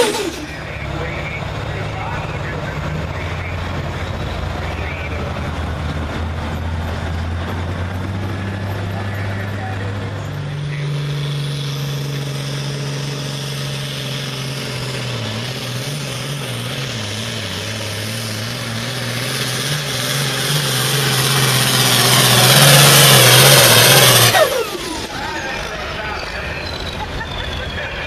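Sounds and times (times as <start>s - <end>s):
tractor engine running hard: 0.0s - 28.0s.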